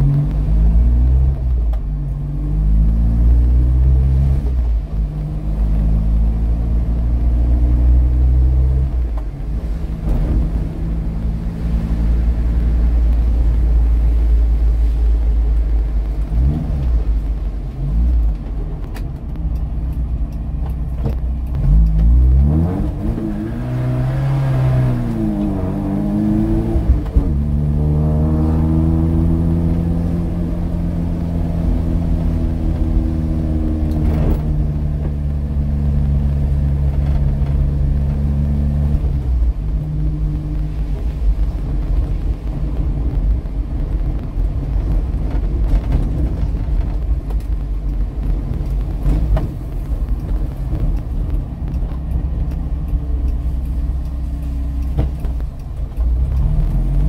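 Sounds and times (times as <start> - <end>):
car engine drone from cabin: 0.0 - 57.0
tyre noise on wet road: 0.0 - 57.0.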